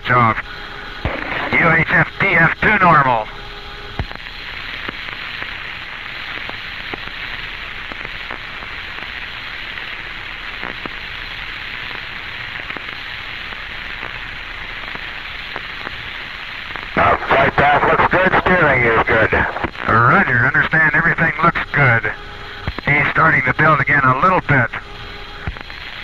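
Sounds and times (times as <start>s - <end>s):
radio static hiss: 0.0s - 26.0s.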